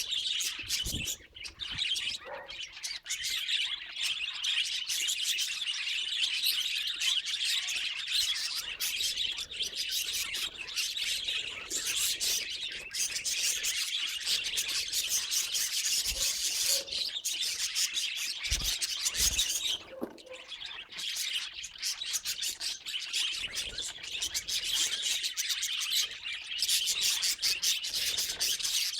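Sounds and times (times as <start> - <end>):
budgerigars chirping: 0.0 - 28.9.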